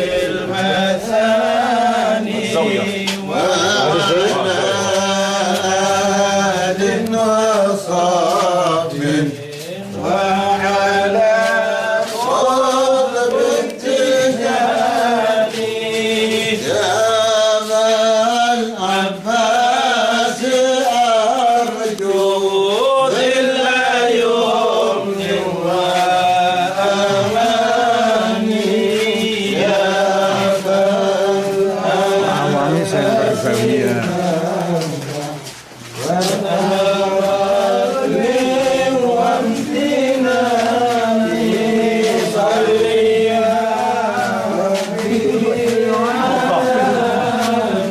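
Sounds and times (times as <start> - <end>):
person chanting a devotional hymn: 0.0 - 47.9.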